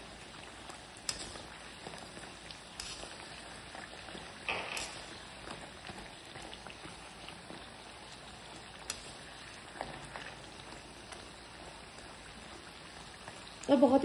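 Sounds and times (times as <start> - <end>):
deep-frying sizzle in oil: 0.0 - 14.0.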